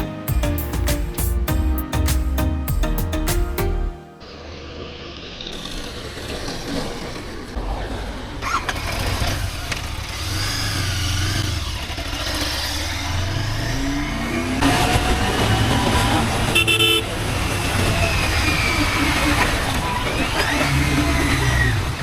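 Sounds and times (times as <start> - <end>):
outdoor road noise: 4.2 - 22.0.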